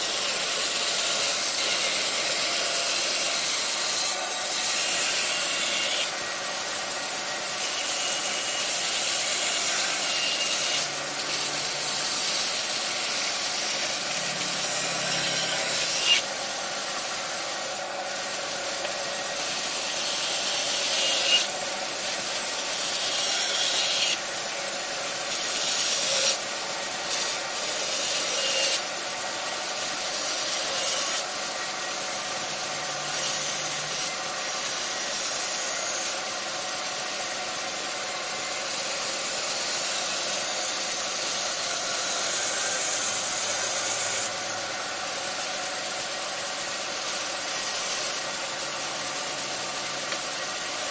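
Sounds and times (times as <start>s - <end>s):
bandsaw cutting wood: 0.0s - 50.9s.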